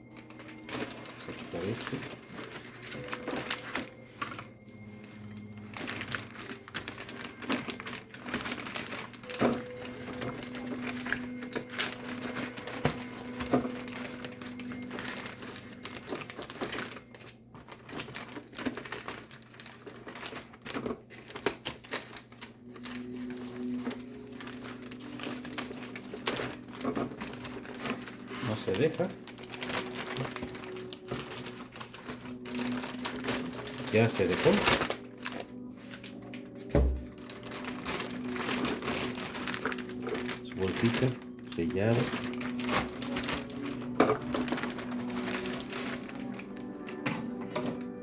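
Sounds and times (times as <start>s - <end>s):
plastic packaging clicks and crinkling: 0.0s - 48.0s.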